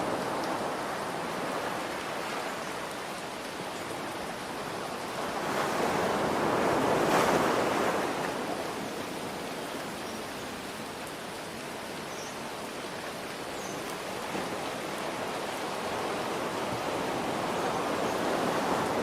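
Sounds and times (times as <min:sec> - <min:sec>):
ocean surf: 0:00.0 - 0:03.6, 0:04.3 - 0:10.7, 0:13.1 - 0:19.0
rain falling: 0:00.0 - 0:19.0.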